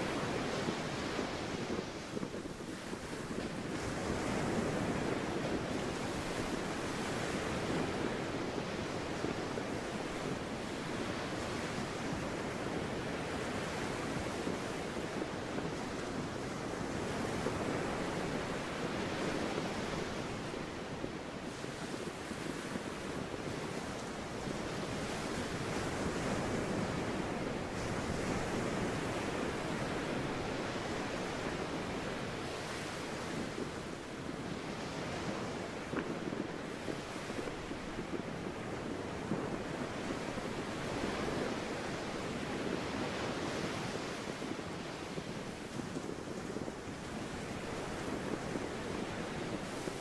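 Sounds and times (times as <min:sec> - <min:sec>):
sea surf washing: 0:00.0 - 0:50.0
wind: 0:00.0 - 0:50.0.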